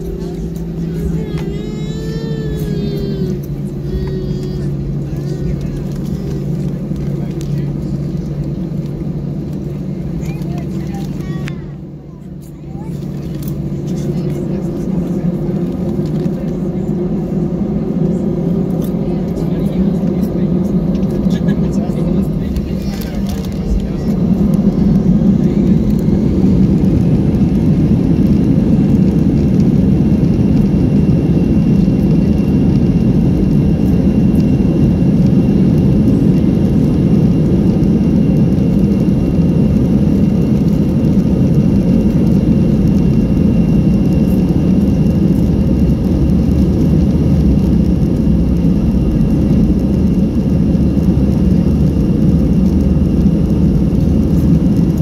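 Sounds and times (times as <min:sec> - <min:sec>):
jet engine cabin rush: 0:00.0 - 0:55.0.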